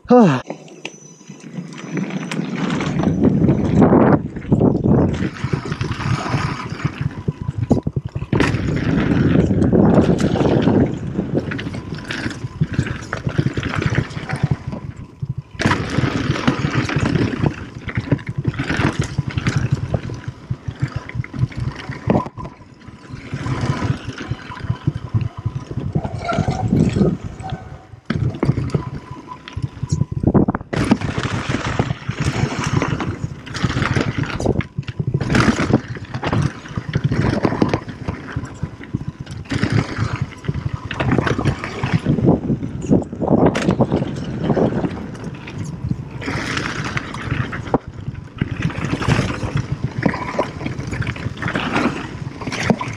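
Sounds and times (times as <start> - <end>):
bike clattering over bumps: 1.4 - 52.9
wind on microphone: 2.0 - 52.9.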